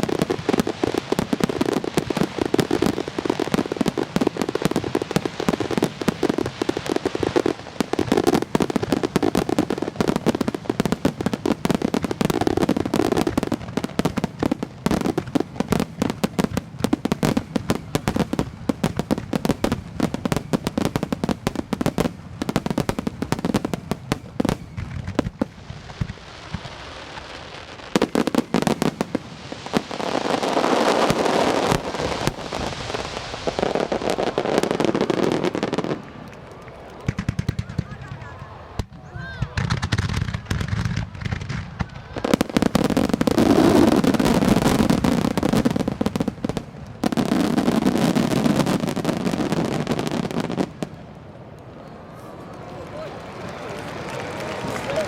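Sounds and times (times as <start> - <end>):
fireworks bursts and crackling: 0.0 - 55.0.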